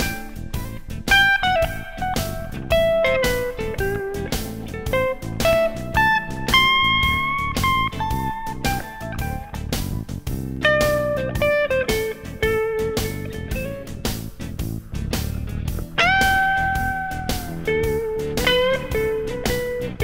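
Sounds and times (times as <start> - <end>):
bass: 0.0 - 20.0
electric guitar bluesy melody: 0.0 - 20.0
steady drum beat: 0.0 - 20.0.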